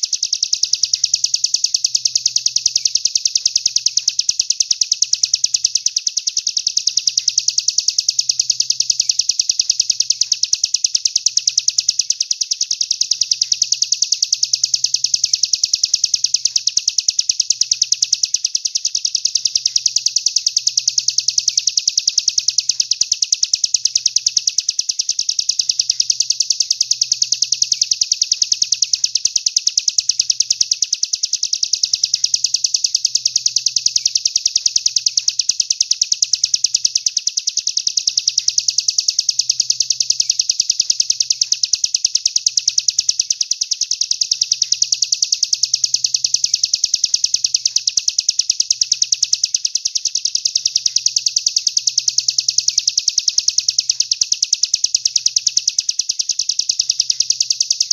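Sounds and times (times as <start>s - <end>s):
songbird high-pitched trill: 0.0s - 57.9s.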